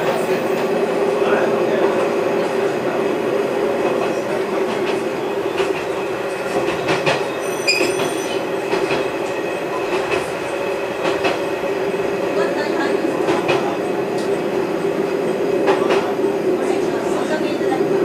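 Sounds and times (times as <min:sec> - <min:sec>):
railcar engine hum: 0:00.0 - 0:18.0.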